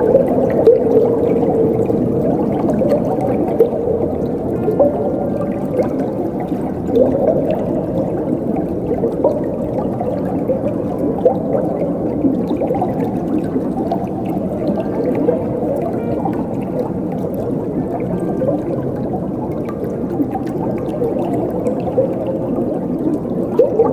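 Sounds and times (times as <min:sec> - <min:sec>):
water gurgling and trickling: 0:00.0 - 0:23.9.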